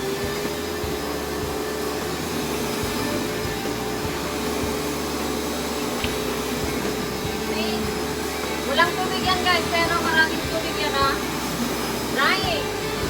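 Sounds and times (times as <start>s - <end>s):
carpet washing vacuum motor whine: 0.0s - 13.0s.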